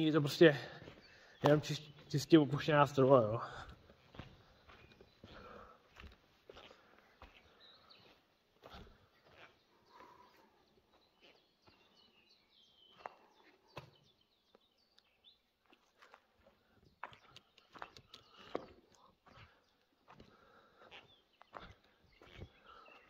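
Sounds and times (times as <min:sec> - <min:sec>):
faint birdsong: 0:00.0 - 0:23.0
footsteps on dirt: 0:00.0 - 0:23.0.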